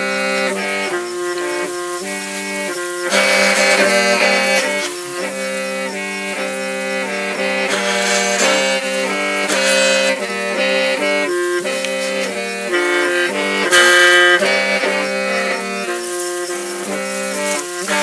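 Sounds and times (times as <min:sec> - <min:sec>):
free-reed mouth organ melody: 0:00.0 - 0:18.0.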